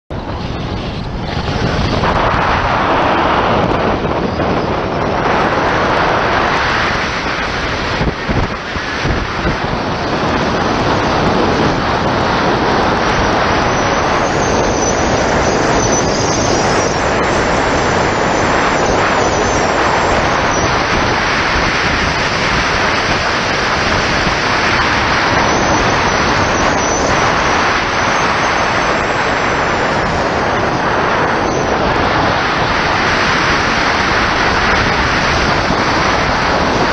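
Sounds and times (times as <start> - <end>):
wind rushing over microphone: 0.1 - 36.9.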